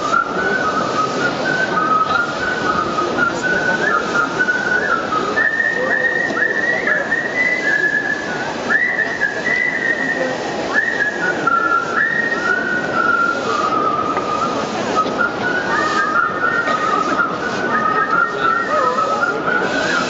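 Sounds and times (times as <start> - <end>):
person whistling a tune: 0.0 - 20.0
steady background noise: 0.0 - 20.0.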